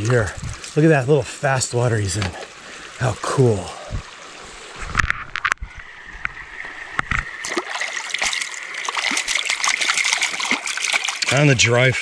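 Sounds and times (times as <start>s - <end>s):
stream water splashing: 0.0s - 12.0s.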